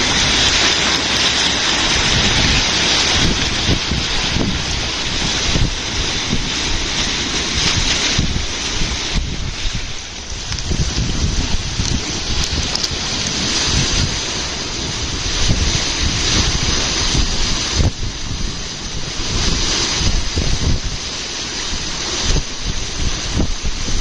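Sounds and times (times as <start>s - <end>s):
whirlpool water rushing: 0.0s - 24.0s
wind buffeting microphone: 0.0s - 24.0s.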